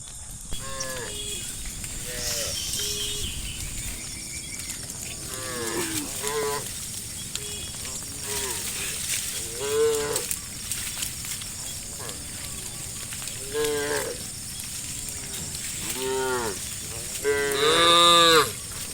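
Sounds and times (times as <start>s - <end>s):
cattle mooing: 0.6s - 18.9s.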